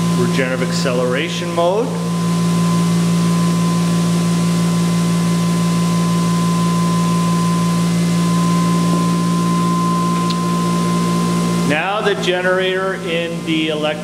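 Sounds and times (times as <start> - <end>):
generator humming: 0.0 - 14.0.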